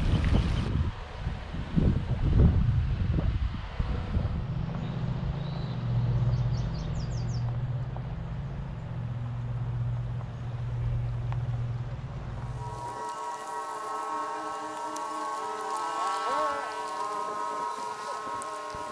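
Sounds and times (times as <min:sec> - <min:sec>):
engine humming: 0:00.0 - 0:18.9.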